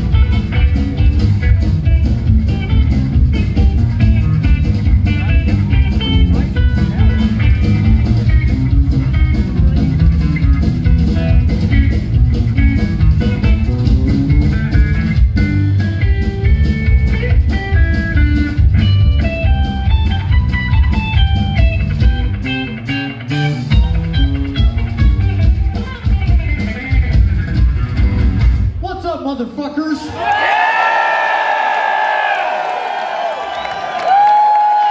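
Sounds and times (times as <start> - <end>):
drum kit: 0.0 - 29.3.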